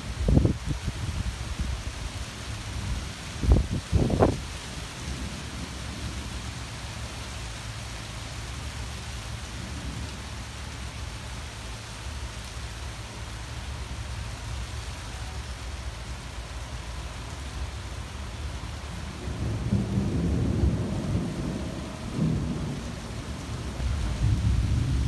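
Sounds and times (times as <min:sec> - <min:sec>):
rain falling on leaves: 0:00.0 - 0:25.0.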